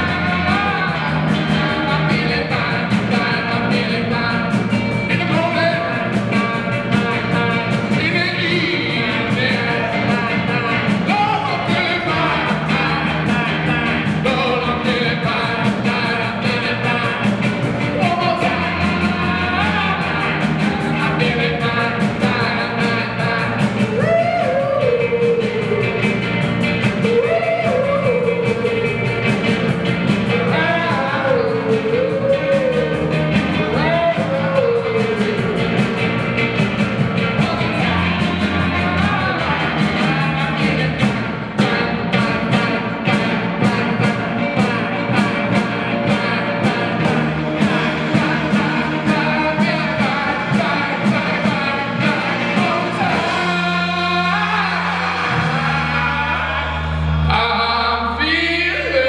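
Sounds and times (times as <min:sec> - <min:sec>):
drum kit: 0:00.0 - 0:58.5
electric guitars: 0:00.0 - 0:59.0
person singing: 0:00.0 - 0:59.0.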